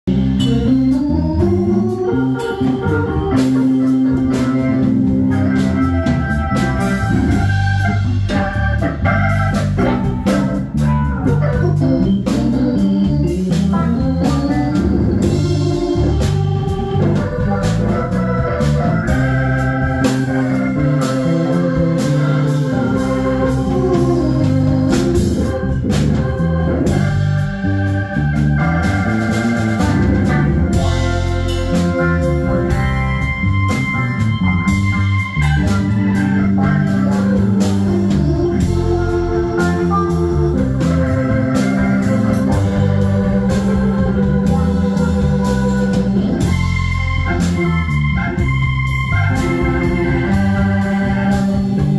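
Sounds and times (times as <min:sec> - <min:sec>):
bass notes: 0:00.0 - 0:51.9
electric guitar: 0:00.0 - 0:51.9
organ chords: 0:00.0 - 0:51.9
drum kit hits: 0:00.1 - 0:51.9.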